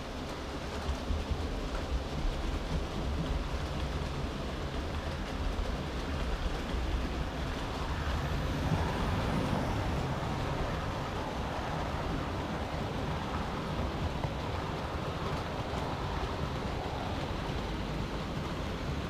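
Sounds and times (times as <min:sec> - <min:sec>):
model train rumbling on rails: 0:00.0 - 0:19.0.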